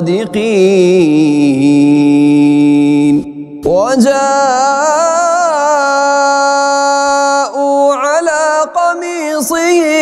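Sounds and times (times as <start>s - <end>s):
man reciting in melodic chant: 0.0s - 10.0s.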